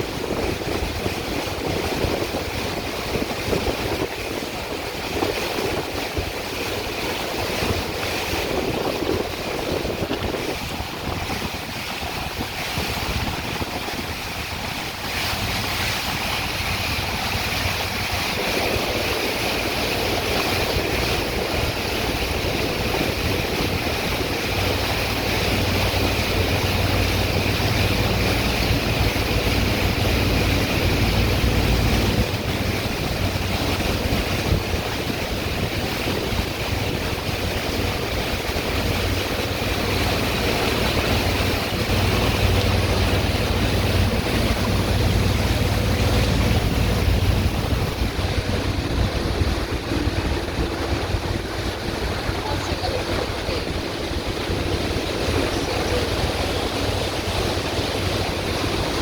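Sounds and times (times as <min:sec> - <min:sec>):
steady rushing rumble: 0:00.0 - 0:59.0
wind buffeting microphone: 0:00.0 - 0:59.0.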